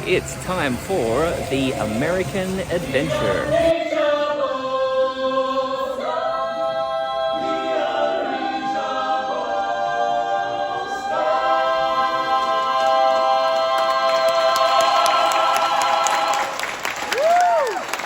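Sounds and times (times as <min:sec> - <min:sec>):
choir singing held chords: 0:00.0 - 0:16.9.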